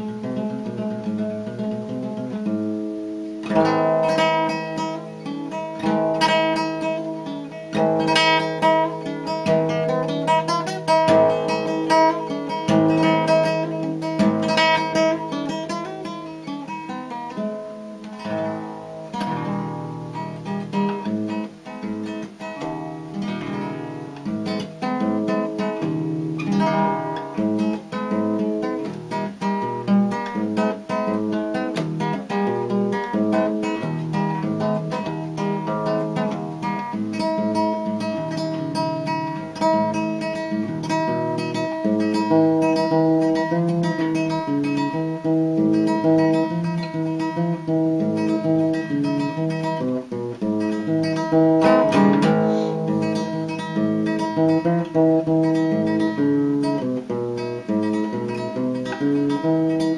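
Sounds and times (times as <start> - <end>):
classical guitar playing: 0.0 - 59.9.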